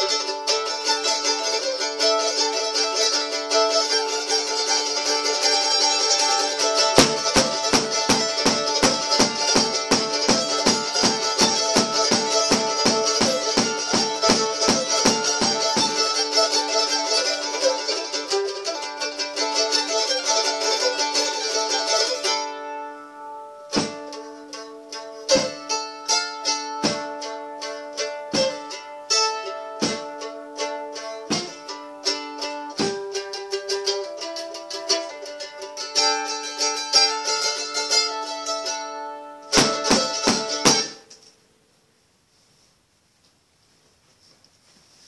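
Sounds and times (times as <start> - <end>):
plucked string instrument: 0.0 - 41.4.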